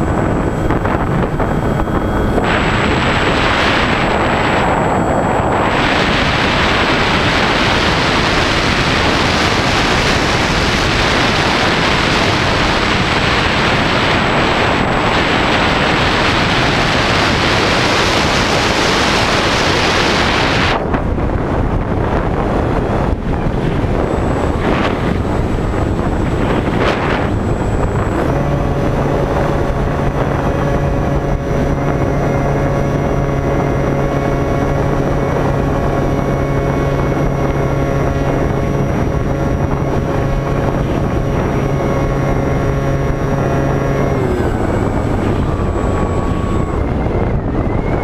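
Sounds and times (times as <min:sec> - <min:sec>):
electric motor whining: 0:00.0 - 0:48.0
wind rushing over camera: 0:00.0 - 0:48.0.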